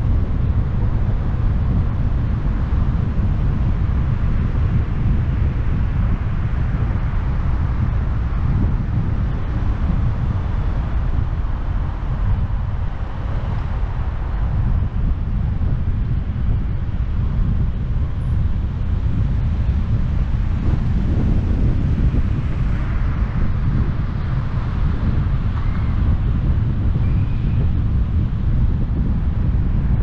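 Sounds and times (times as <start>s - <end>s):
car tyre and road noise: 0.0s - 30.0s
wind buffeting microphone: 0.0s - 30.0s.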